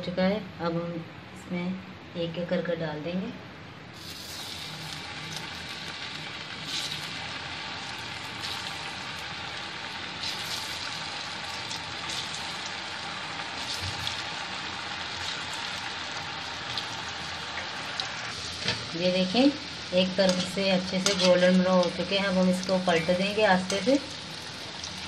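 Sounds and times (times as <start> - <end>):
dough deep-frying in oil: 4.0 - 25.0.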